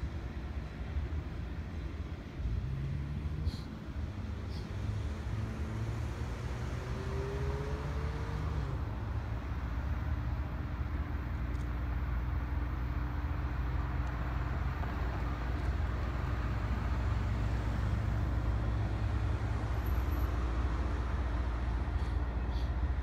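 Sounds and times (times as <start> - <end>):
diesel locomotive engine rumble: 0.0 - 6.1, 8.7 - 23.0.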